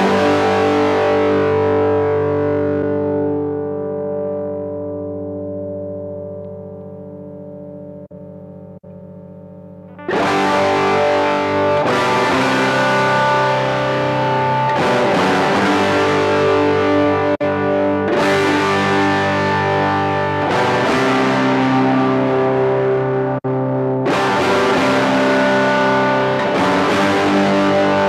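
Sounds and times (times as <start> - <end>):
distorted electric guitar chords: 0.0 - 28.0
held guitar note: 0.0 - 28.0.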